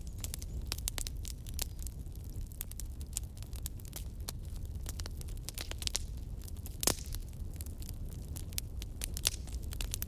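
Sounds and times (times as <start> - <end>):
campfire crackling and popping: 0.0 - 10.0
low rumble of flames: 0.0 - 10.0.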